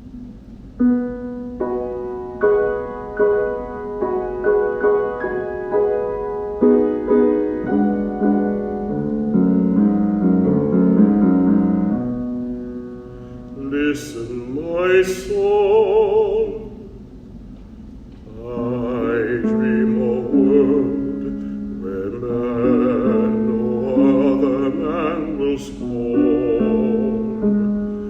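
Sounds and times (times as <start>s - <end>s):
slow solo piano: 0.0s - 28.0s.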